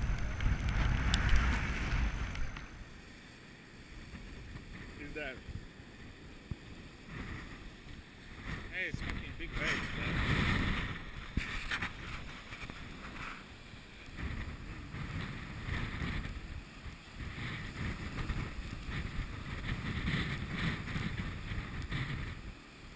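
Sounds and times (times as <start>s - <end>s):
wind buffeting microphone: 0.0s - 3.2s, 3.8s - 22.9s
surf breaking on shore: 0.0s - 22.9s.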